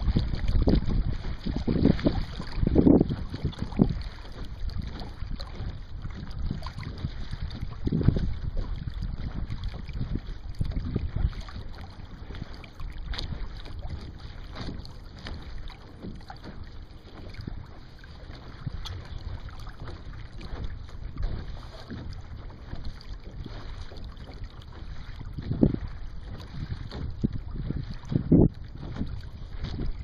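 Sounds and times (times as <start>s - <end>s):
water splashing along hull: 0.0s - 30.0s
wind noise on microphone: 0.0s - 30.0s.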